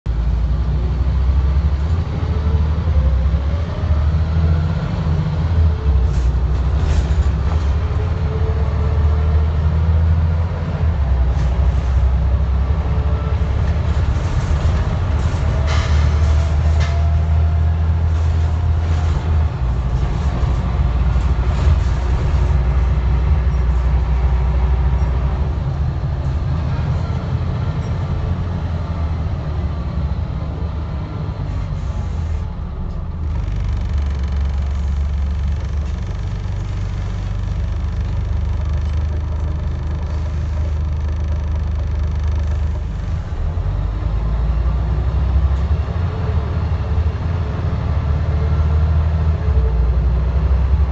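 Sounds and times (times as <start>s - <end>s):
bus diesel engine drone: 0.0s - 50.9s.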